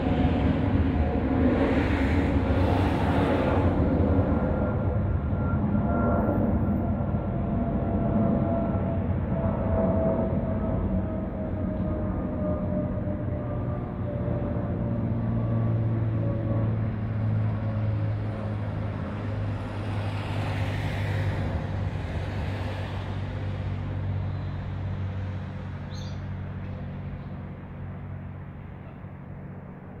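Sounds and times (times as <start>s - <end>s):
jet engines rumbling on climb-out: 0.0s - 30.0s.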